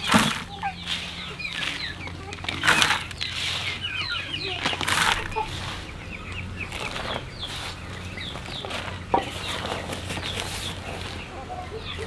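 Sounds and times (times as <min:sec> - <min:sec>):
chickens clucking: 0:00.0 - 0:12.0
rustling: 0:00.0 - 0:12.0.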